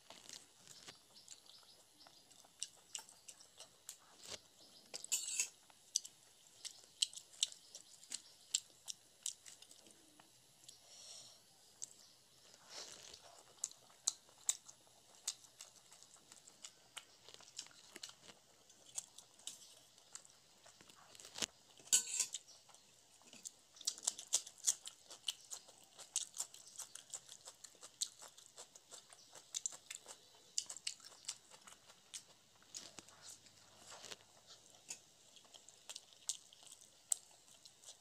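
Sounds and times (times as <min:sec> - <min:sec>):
close-up chewing: 0:00.0 - 0:10.8, 0:11.6 - 0:38.0.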